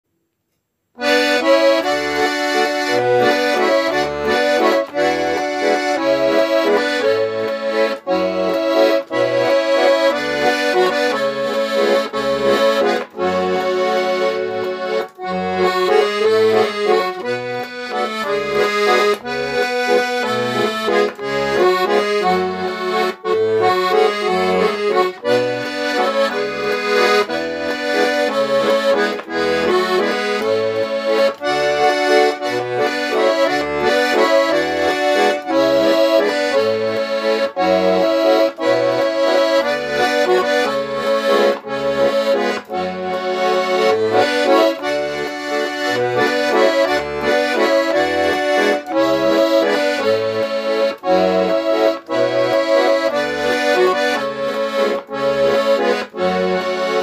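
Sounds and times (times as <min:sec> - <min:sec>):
button accordion playing: 0:01.0 - 0:57.0.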